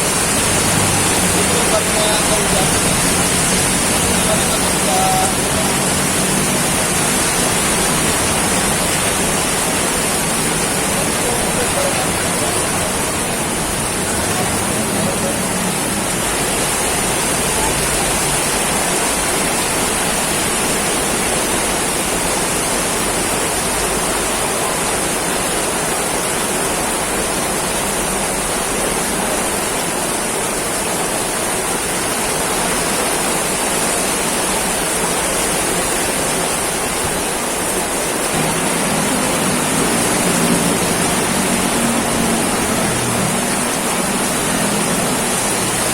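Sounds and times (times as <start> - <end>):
torrential rain: 0.0 - 45.9.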